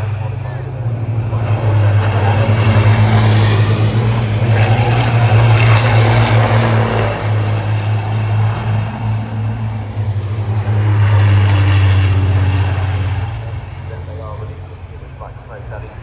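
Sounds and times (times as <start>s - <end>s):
racing truck engines passing: 0.0s - 16.0s.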